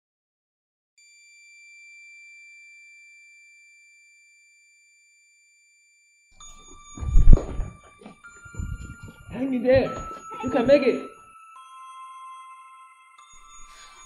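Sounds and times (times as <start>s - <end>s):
high bell-like chime: 1.0s - 14.0s.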